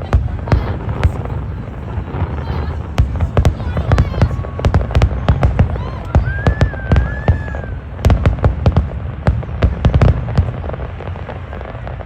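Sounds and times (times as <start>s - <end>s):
fireworks bangs and booms: 0.0s - 12.0s
firework whistle: 0.5s - 12.0s.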